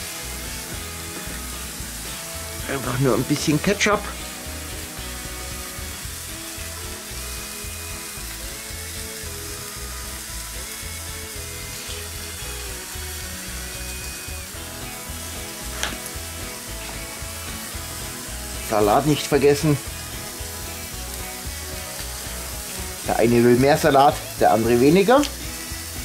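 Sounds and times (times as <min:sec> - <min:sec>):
burger patties sizzling on griddle: 0:00.0 - 0:26.0.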